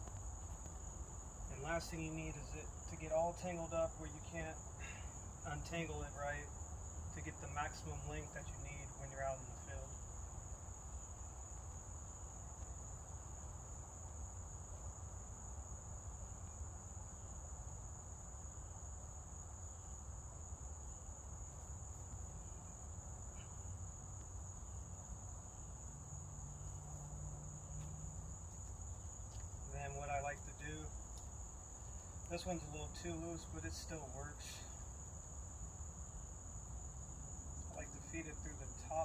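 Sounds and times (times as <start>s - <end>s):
insects droning: 0.0s - 39.0s.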